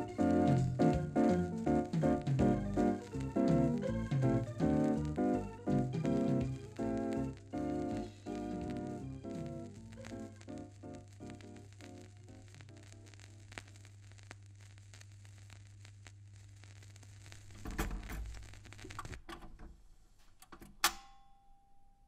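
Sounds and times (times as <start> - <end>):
vinyl record crackle and clicks: 0.0 - 20.7.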